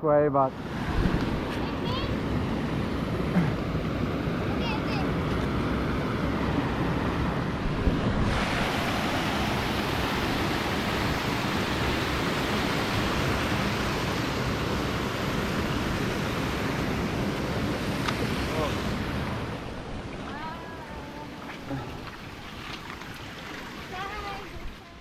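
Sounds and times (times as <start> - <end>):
river water flowing: 0.5 - 25.0.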